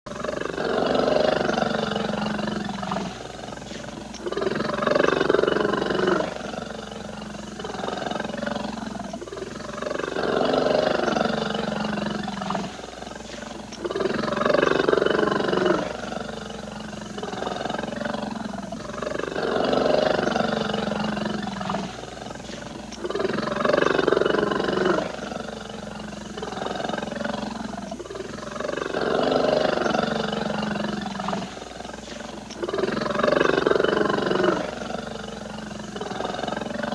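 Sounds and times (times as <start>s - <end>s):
bear growling: 0.1s - 36.9s
bear roaring: 0.1s - 36.9s.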